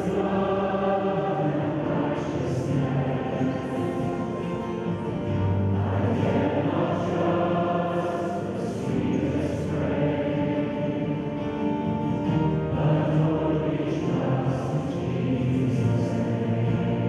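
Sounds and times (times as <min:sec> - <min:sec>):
youth choir singing: 0:00.0 - 0:17.0.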